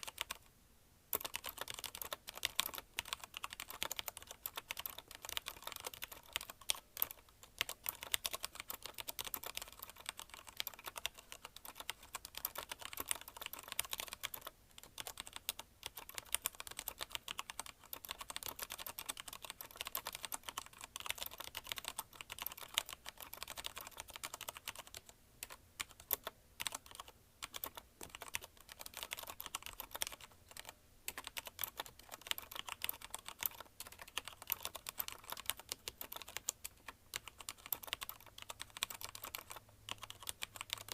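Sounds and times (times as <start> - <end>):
typing on mechanical keyboard: 0.0 - 0.5, 1.1 - 40.9.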